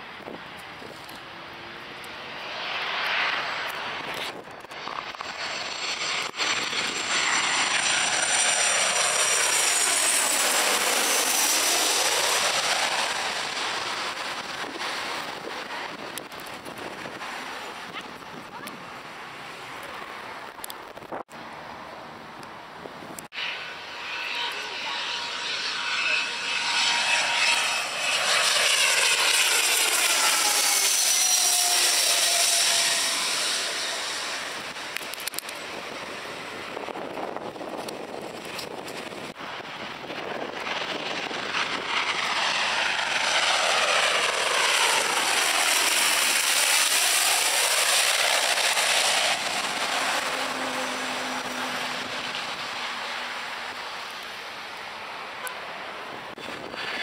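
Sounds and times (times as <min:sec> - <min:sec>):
jet airliner passing overhead: 0:00.0 - 0:57.0.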